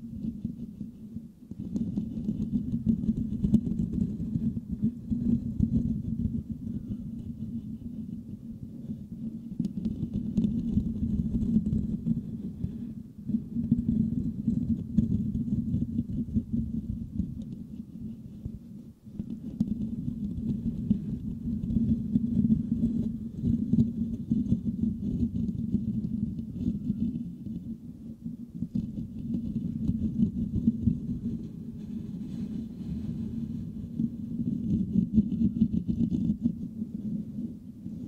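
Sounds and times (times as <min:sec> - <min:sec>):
fingertips scratching microphone grille: 0:00.2 - 0:12.9, 0:13.6 - 0:27.7, 0:28.6 - 0:37.3.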